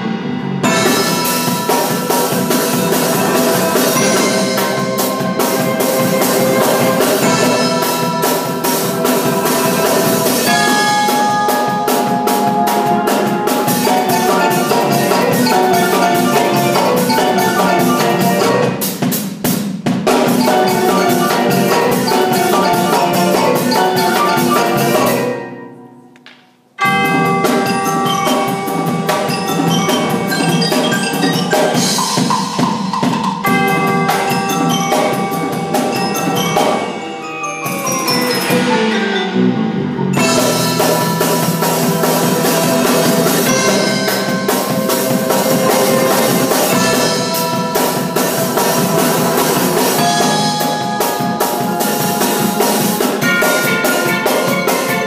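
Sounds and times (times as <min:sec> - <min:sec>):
drum kit: 0:00.0 - 0:55.0
marimbas and vibraphones: 0:00.2 - 0:26.1, 0:26.8 - 0:55.0.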